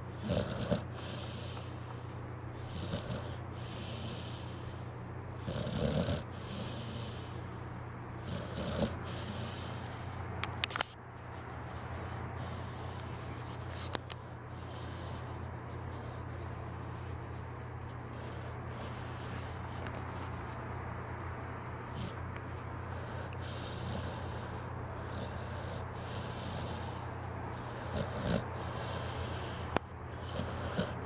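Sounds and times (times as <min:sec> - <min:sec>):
steady low hum: 0:00.0 - 0:31.0
dog snoring: 0:00.1 - 0:10.1, 0:11.7 - 0:20.8, 0:21.4 - 0:22.2, 0:22.8 - 0:31.0.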